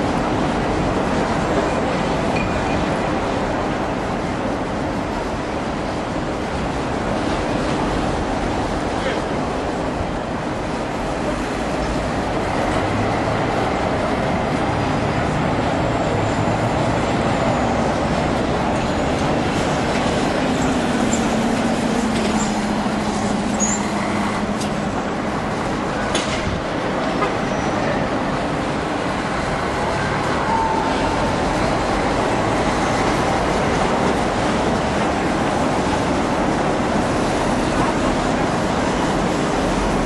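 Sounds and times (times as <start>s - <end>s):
vehicle noise: 0.0s - 40.0s.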